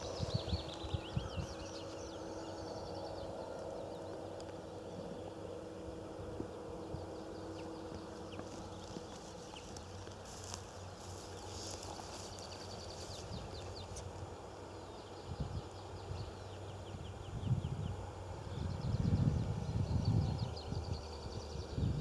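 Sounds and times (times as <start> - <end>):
low steady rumble: 0.0 - 22.0
small birds chirping: 0.0 - 22.0.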